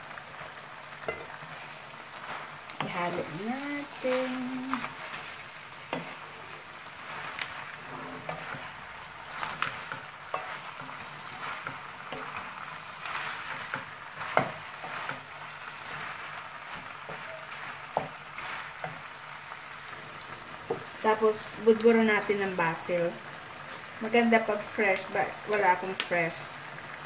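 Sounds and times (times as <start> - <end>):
stir-fry sizzling in a wok: 0.0 - 27.0.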